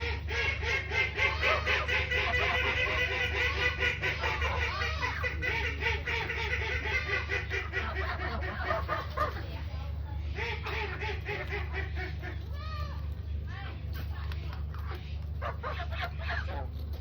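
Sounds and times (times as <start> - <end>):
geese honking: 0.0 - 9.6, 10.2 - 12.6, 14.7 - 17.0
steady low hum: 0.0 - 17.0.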